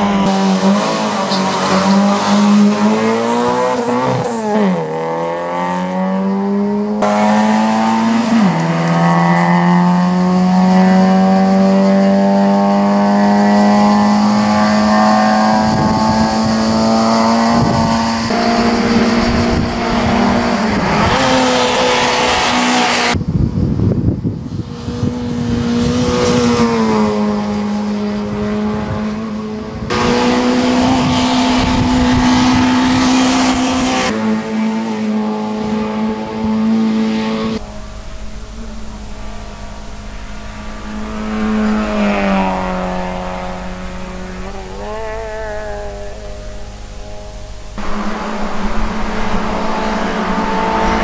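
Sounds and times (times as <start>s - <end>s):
race car engine at high revs: 0.0s - 51.0s.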